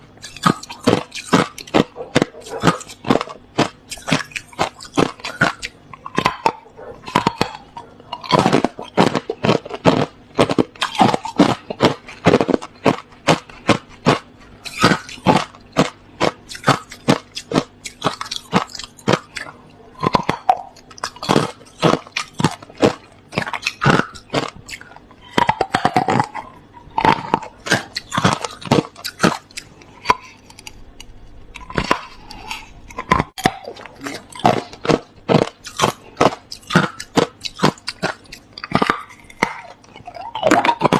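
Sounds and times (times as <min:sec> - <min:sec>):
chewing crushed ice: 0:00.0 - 0:40.9.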